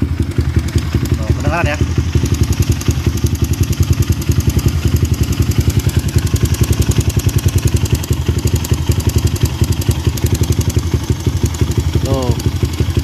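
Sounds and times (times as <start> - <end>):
motorcycle engine idling: 0.0 - 13.0
rapid mechanical ticking: 0.2 - 13.0.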